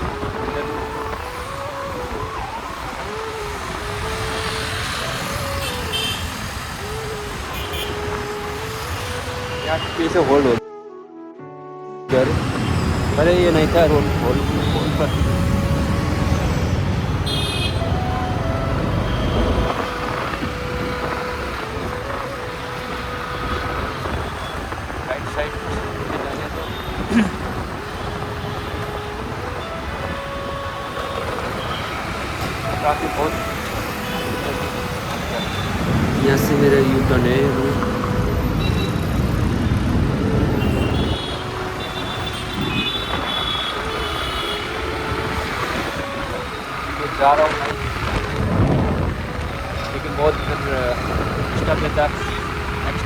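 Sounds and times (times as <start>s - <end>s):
wind rumbling on microphone: 0.0s - 10.3s, 12.2s - 53.0s
engines of road traffic: 0.0s - 10.6s, 12.1s - 53.0s.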